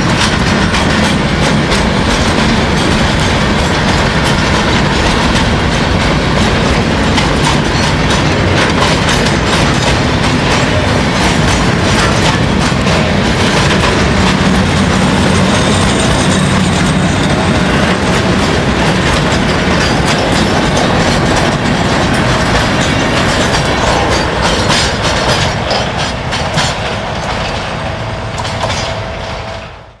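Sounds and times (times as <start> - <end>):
train wheels clacking over rail joints: 0.0 - 30.0.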